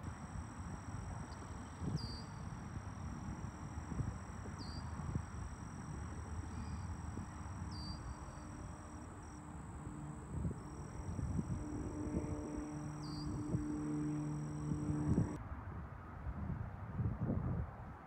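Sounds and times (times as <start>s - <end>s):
high-pitched insect trill: 0.0s - 15.4s
wind noise on microphone: 0.0s - 18.0s.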